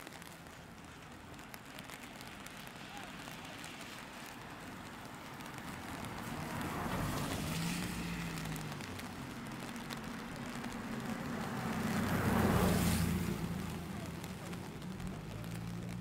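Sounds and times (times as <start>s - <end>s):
rain falling: 0.0s - 16.0s
vehicle tyre hiss on wet road: 0.0s - 16.0s.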